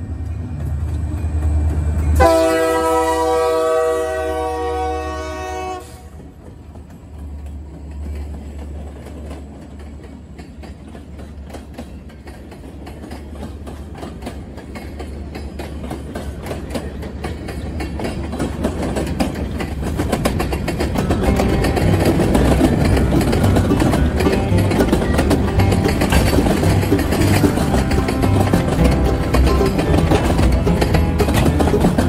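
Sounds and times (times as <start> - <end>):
low train rumble: 0.0 - 32.0
train wheels clicking over rail joints: 0.0 - 32.0.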